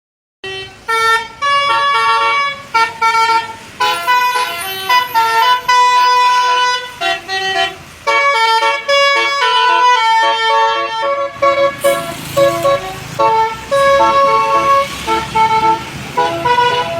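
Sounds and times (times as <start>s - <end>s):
multi-trumpet air horn tune: 0.4s - 16.9s.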